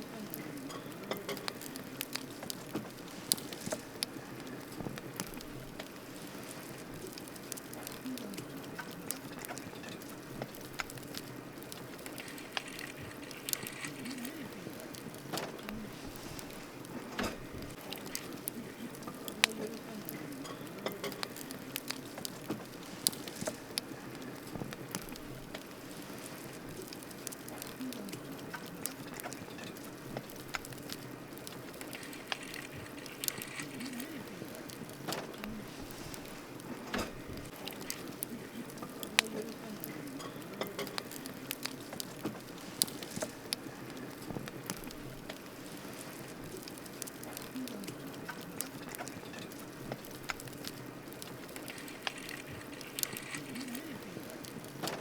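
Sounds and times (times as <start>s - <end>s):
campfire hissing: 0.0s - 55.0s
fire crackles and pops: 0.0s - 55.0s.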